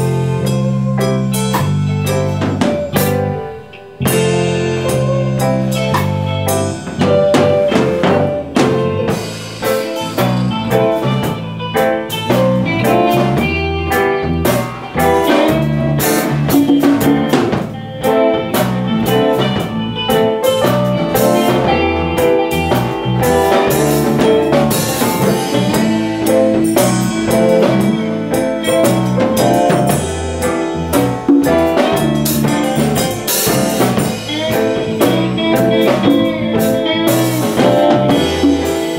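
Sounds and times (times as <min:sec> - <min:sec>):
drum kit: 0:00.0 - 0:38.9
electric guitar: 0:00.0 - 0:38.9
keyboard: 0:00.0 - 0:38.9.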